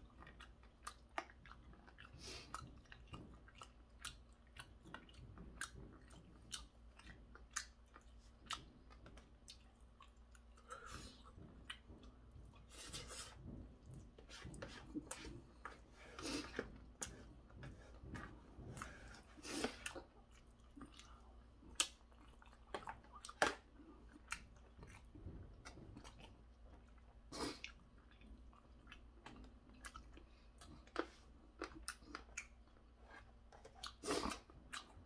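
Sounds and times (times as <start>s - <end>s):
chewing with crunches: 0.0s - 35.0s.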